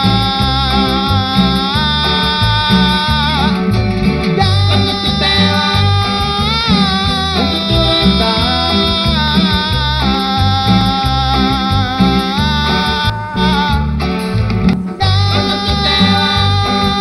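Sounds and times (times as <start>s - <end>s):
cumbia band playing: 0.0s - 17.0s.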